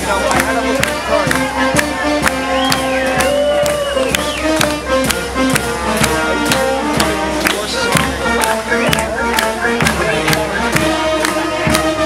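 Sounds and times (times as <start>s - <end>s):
brass band playing: 0.0s - 12.0s
crowd clapping along: 0.0s - 12.0s.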